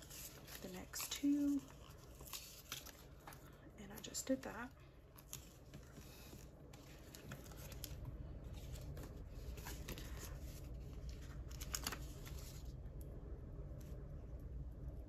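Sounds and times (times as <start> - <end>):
paper rustling and crinkling: 0.0 - 4.6, 5.2 - 12.8.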